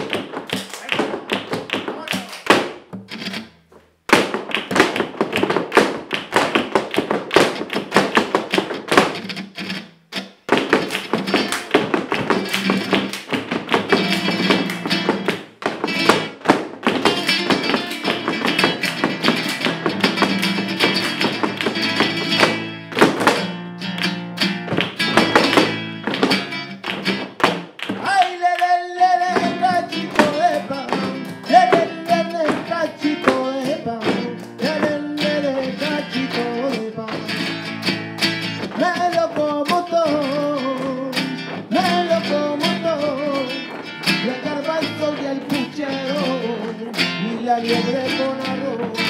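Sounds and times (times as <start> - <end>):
dance shoes on wooden floor: 0.0 - 49.0
flamenco guitar strumming: 0.0 - 49.0.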